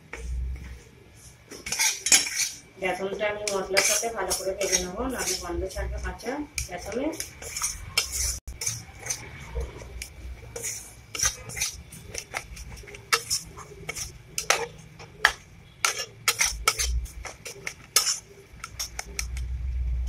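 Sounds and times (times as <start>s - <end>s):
spatula scraping metal pan: 1.5s - 19.4s.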